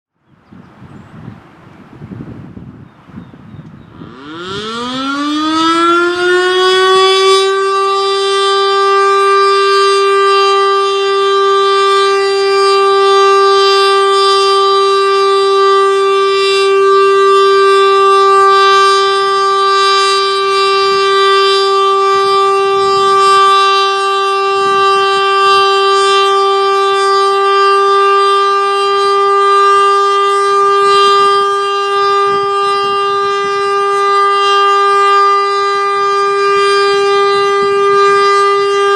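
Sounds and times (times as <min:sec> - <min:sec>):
warning siren winding up: 0:03.6 - 0:38.9.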